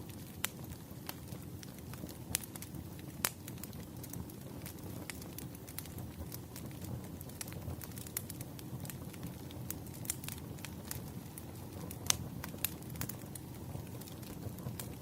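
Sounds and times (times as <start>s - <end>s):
low rumble of flame: 0.0s - 15.0s
wood crackling and popping: 0.0s - 15.0s.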